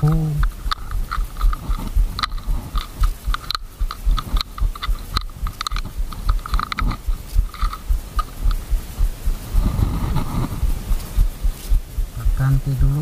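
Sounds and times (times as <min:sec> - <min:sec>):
low handling rumble on microphone: 0:00.0 - 0:13.0.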